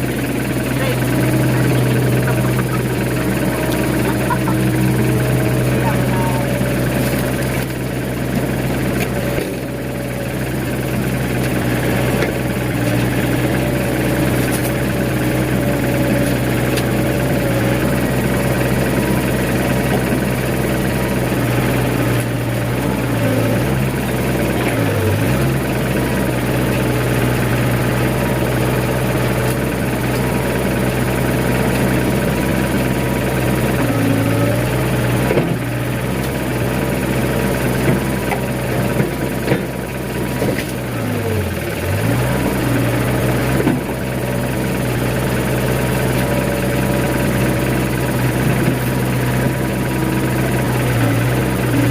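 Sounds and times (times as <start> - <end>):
diesel excavator engine running: 0.0 - 51.9.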